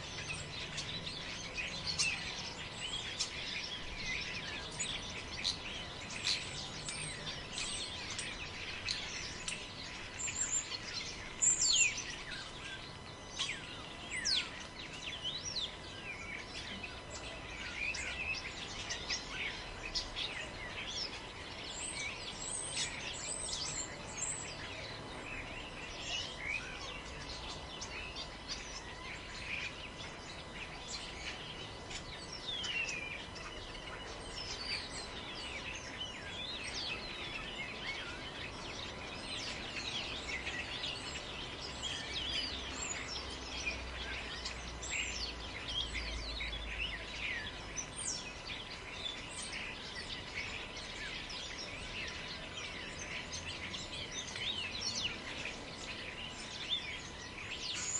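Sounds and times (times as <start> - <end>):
forest ambience hiss: 0.0 - 57.9
small birds chirping and trilling: 0.0 - 57.9.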